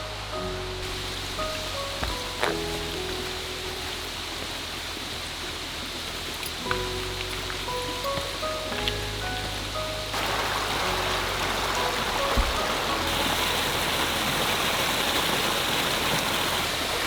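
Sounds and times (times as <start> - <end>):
soft musical notes: 0.0 - 15.4
stream rushing over rocks: 0.0 - 17.0.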